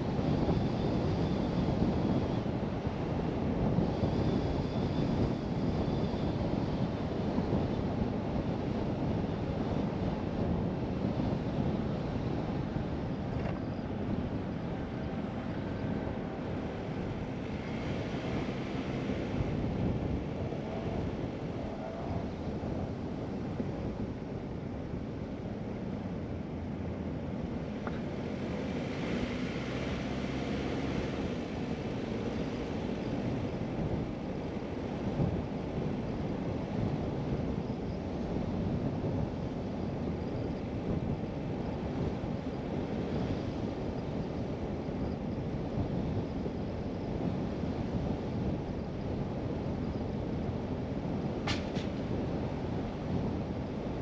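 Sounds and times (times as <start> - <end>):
car driving on paved road: 7.2 - 54.0.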